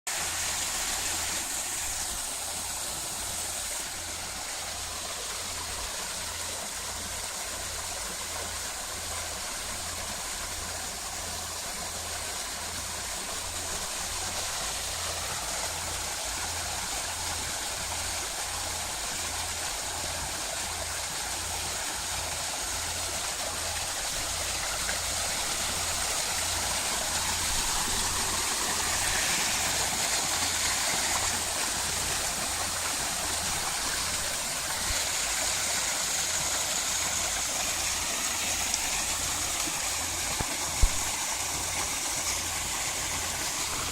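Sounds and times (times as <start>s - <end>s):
water falling and splashing: 0.1s - 43.9s.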